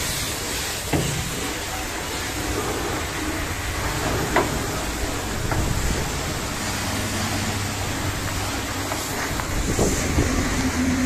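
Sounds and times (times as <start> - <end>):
brush scrubbing wet panels: 0.0 - 11.0
steady hiss: 0.0 - 11.0.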